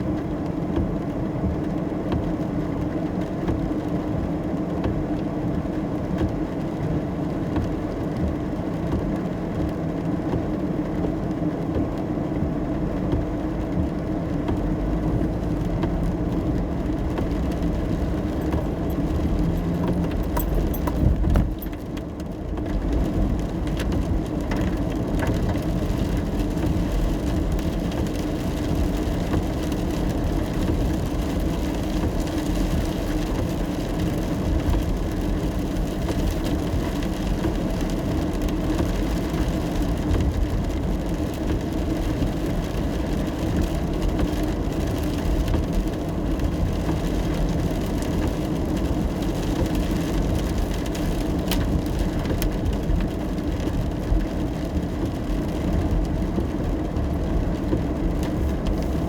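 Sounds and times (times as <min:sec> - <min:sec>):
rain on car: 0:00.0 - 0:59.0
road and tyre noise: 0:00.0 - 0:59.0.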